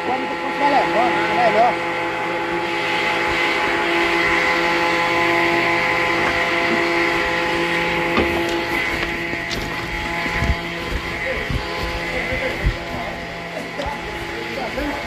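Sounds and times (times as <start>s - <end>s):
circular saw running: 0.0s - 15.0s.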